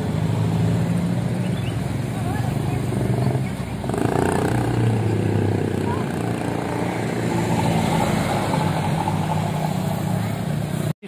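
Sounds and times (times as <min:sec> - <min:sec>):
motorcycle passing: 0:00.0 - 0:10.9
cars passing: 0:00.0 - 0:11.0
truck engine passing: 0:00.0 - 0:11.0.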